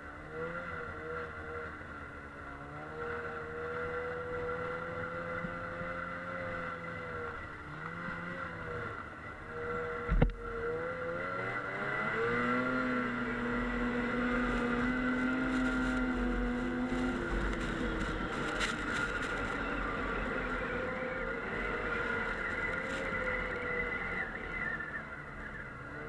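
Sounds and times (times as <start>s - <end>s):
snowmobile engine revving: 0.1s - 26.0s.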